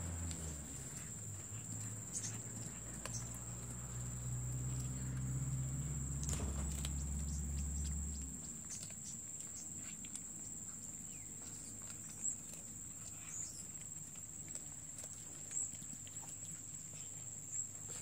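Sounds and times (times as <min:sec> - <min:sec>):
cats eating off metal plate: 0:00.0 - 0:18.0.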